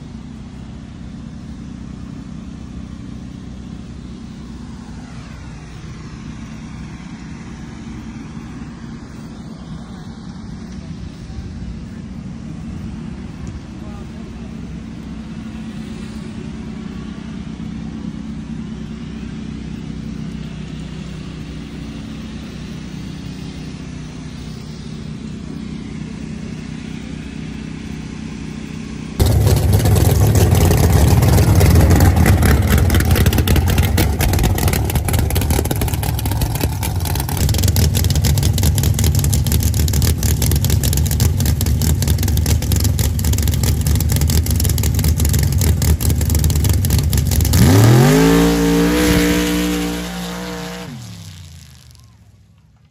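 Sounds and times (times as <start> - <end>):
steady engine hum: 0.0 - 52.9
truck engine running rough: 0.0 - 52.9.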